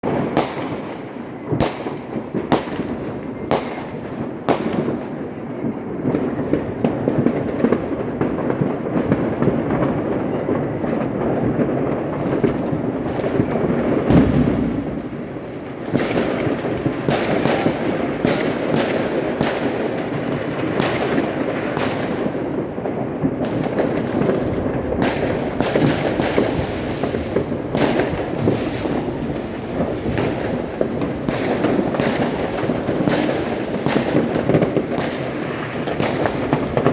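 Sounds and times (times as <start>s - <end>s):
firecrackers crackling: 0.0s - 36.9s
fireworks bangs: 0.0s - 36.9s.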